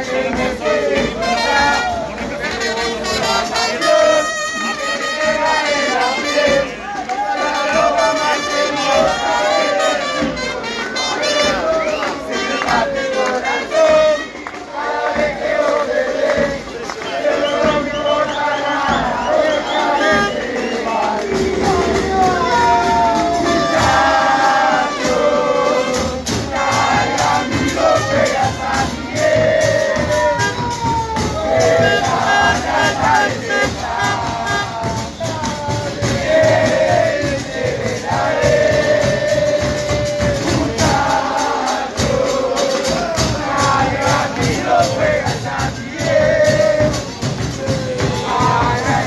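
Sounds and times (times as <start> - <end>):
crowd noise: 0.0 - 49.0
crowd singing a chant: 0.0 - 49.0
hand percussion beat: 0.0 - 49.0.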